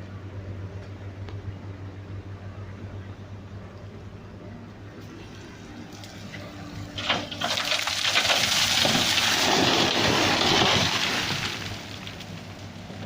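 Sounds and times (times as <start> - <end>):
truck diesel engine hum: 0.0 - 13.0.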